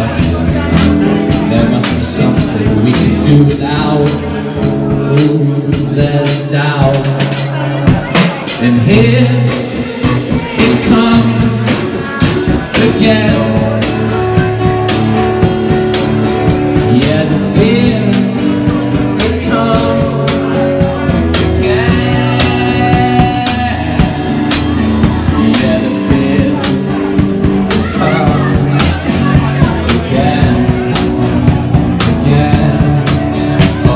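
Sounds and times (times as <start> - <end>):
amplified acoustic guitar: 0.0 - 33.9
drums on a steady beat: 0.0 - 33.9
person singing: 0.0 - 33.9.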